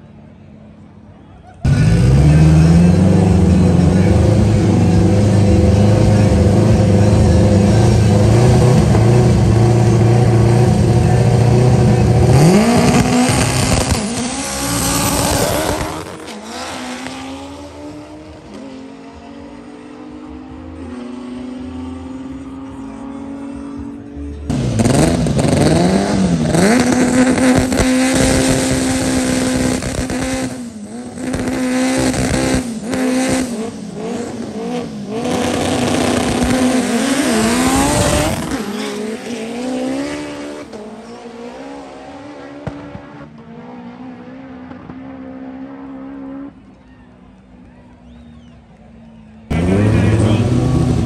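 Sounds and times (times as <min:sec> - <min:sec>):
race car engine revving: 0:00.7 - 0:51.0.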